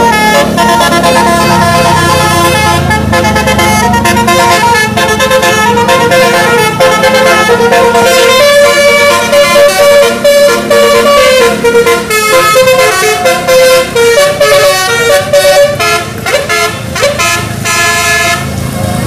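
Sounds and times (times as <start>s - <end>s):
musical bus air horn: 0.0s - 18.5s.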